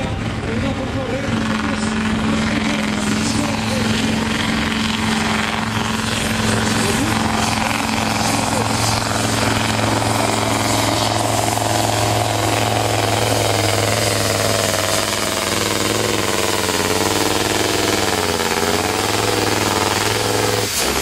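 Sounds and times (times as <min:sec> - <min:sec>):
diesel engine at full throttle: 0:00.0 - 0:21.0.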